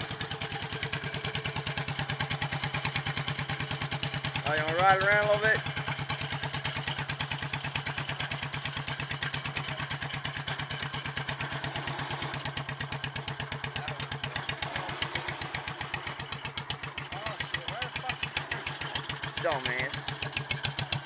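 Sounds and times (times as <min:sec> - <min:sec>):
tractor engine idling chug: 0:00.0 - 0:21.0.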